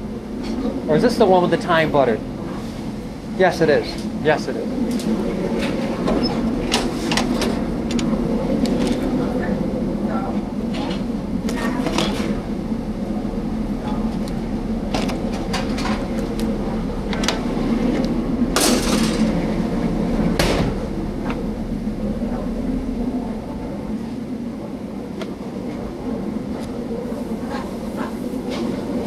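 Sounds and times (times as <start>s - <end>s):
steady kitchen hum: 0.0s - 29.0s.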